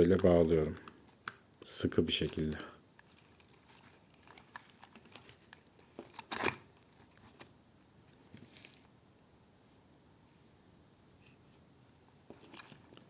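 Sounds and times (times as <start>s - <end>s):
electrical wire rustling and crinkling: 0.0s - 9.0s, 11.2s - 13.0s.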